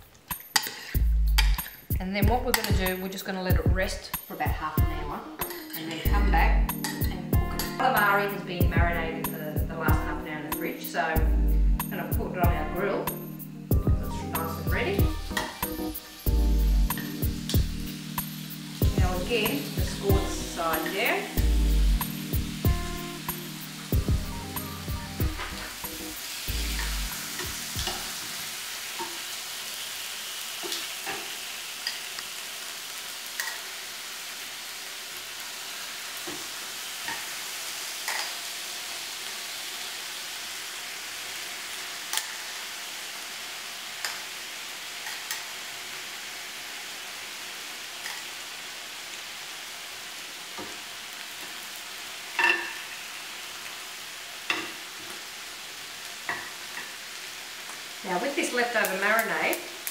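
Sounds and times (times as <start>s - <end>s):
calamari sizzling on a grill: 0.0s - 59.9s.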